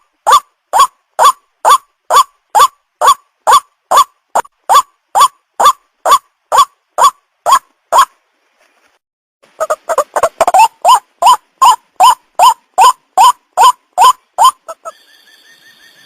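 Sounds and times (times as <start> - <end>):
waterhen calling: 0.0 - 8.2, 9.5 - 14.9.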